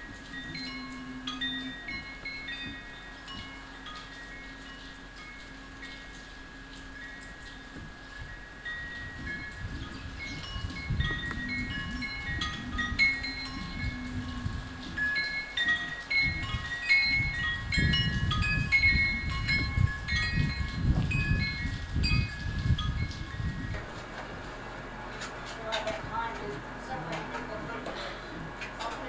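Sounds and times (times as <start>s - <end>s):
wind chimes ringing: 0.0s - 23.9s.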